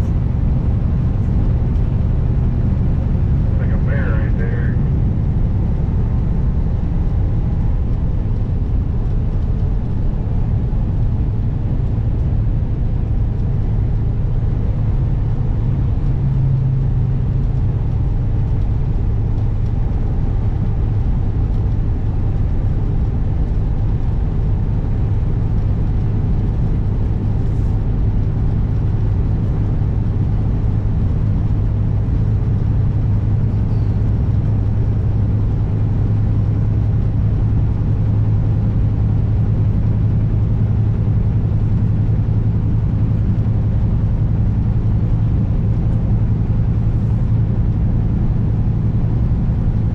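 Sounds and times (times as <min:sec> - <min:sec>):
diesel truck engine drone: 0:00.0 - 0:49.9
road and wind noise: 0:00.0 - 0:49.9.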